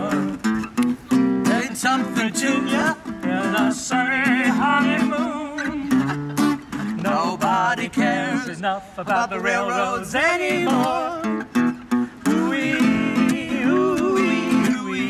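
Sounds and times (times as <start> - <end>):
man singing: 0.0 - 0.4, 1.4 - 6.2, 6.8 - 11.5, 12.2 - 15.0
acoustic guitars strumming: 0.0 - 15.0.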